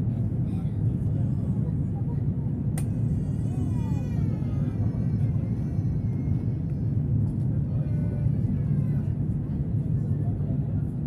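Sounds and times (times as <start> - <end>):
faint voices: 0.0 - 11.0
train cabin low rumble: 0.0 - 11.0.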